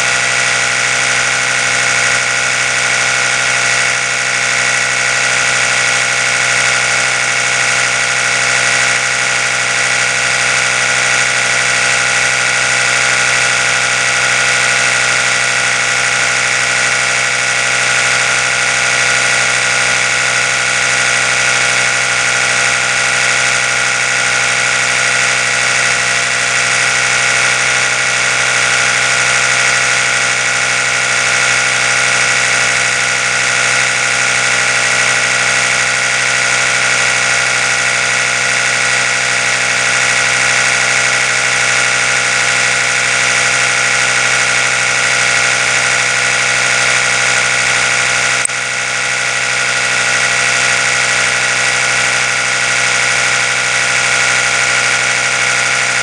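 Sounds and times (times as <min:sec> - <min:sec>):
electric toothbrush buzzing: 0:00.0 - 0:56.0.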